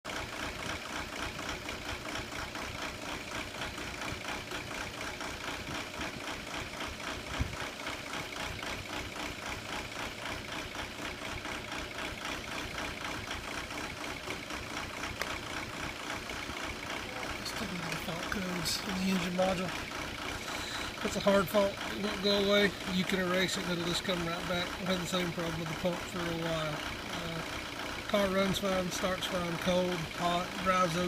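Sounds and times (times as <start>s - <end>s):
diesel engine idling: 0.1s - 31.0s
low engine knock: 0.1s - 31.0s.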